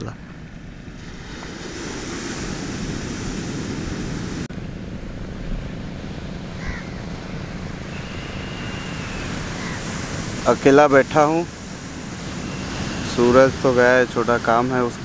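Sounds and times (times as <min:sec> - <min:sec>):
wind on microphone: 0:00.0 - 0:15.0
surf breaking on beach: 0:00.9 - 0:15.0.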